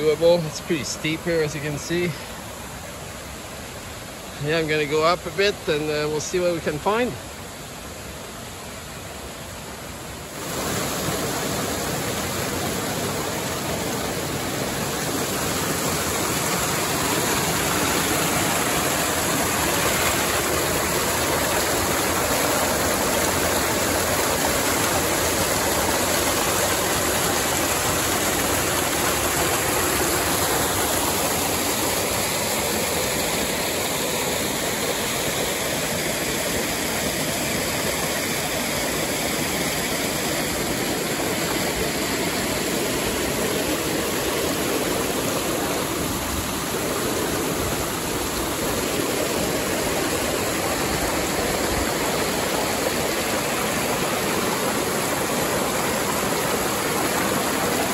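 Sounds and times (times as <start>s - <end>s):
water rushing over rocks: 0.0s - 57.9s.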